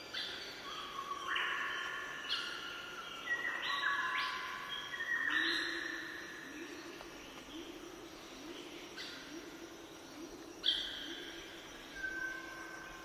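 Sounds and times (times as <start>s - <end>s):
birds singing whistled notes: 0.0s - 9.6s, 10.6s - 13.0s.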